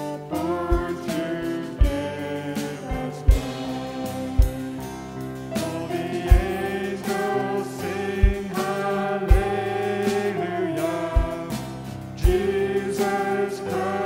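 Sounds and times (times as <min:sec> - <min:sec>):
deep beat: 0:00.0 - 0:14.0
people singing worship song: 0:00.0 - 0:14.0.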